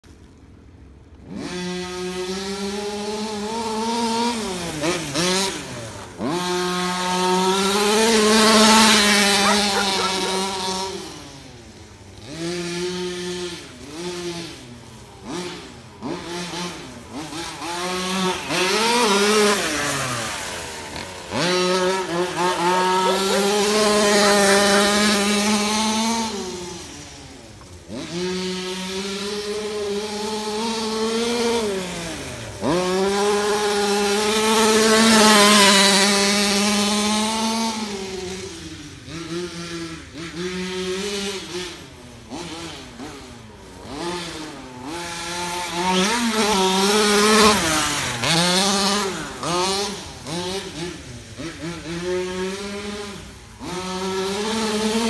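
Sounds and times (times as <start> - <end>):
two-stroke engine revving: 1.2 - 55.0.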